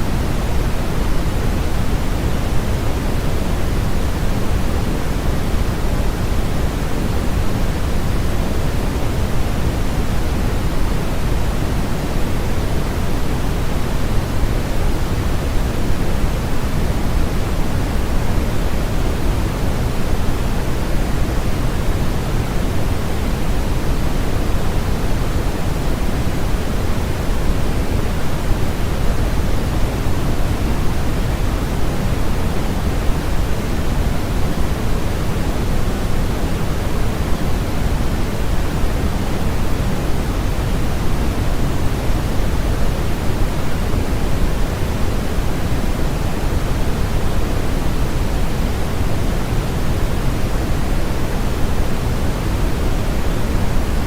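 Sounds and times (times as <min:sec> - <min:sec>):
white noise: 0:00.0 - 0:54.0.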